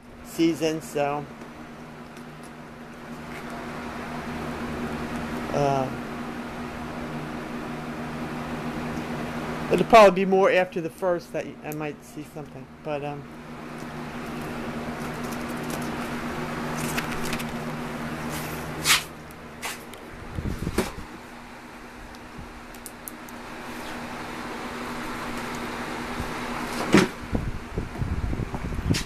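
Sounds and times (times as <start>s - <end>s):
machine humming: 0.0s - 28.9s.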